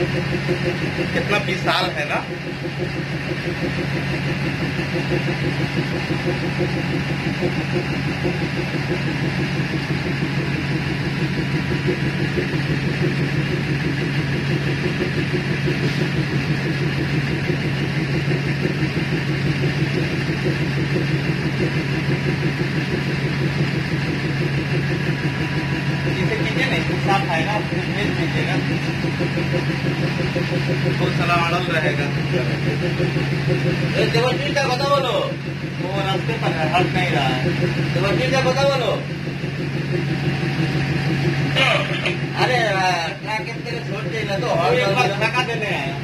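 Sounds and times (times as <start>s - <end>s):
train diesel engine idling: 0.0s - 46.0s.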